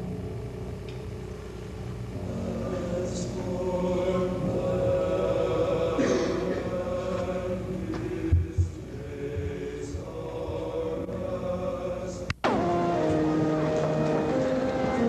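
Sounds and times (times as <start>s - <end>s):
choir singing long held notes: 2.2s - 15.0s.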